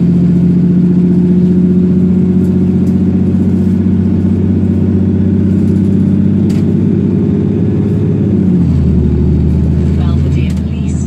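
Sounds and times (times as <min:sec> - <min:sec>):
diesel bus engine running: 0:00.0 - 0:11.0.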